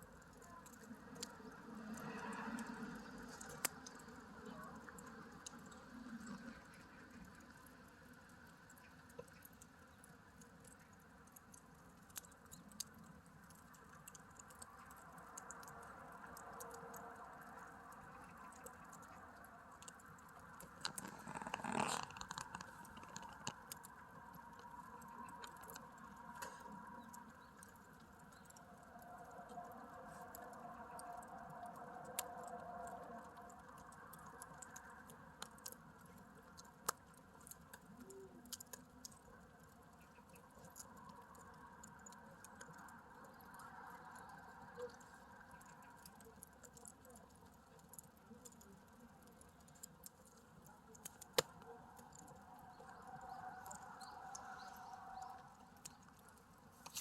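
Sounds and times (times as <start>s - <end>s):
log fire crackling and popping: 0.0s - 57.0s
soft steady hiss: 0.0s - 57.0s.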